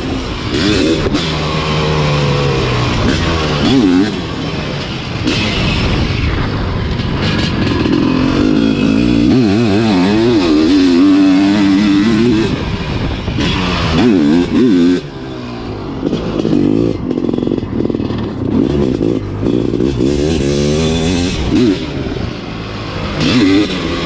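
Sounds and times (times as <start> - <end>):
motorcycle engine revving hard: 0.0 - 24.0.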